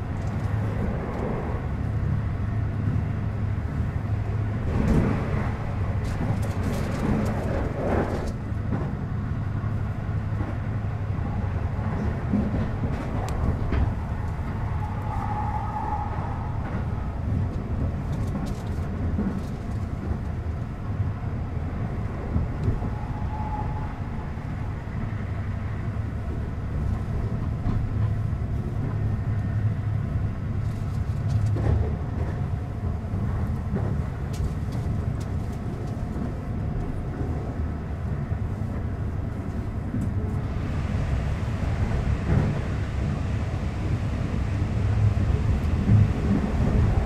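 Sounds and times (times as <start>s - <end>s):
train rumble from inside: 0.0s - 47.0s.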